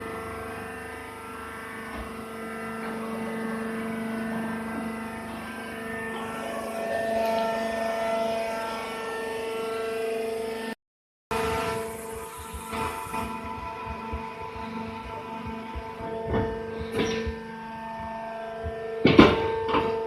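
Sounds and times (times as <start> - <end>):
baling machine droning: 0.0 - 20.0.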